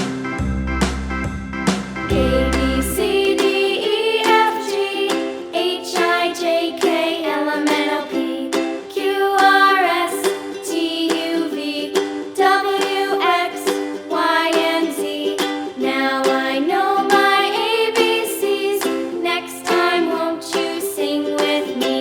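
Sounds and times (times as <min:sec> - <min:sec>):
light plucked string music: 0:00.0 - 0:22.0.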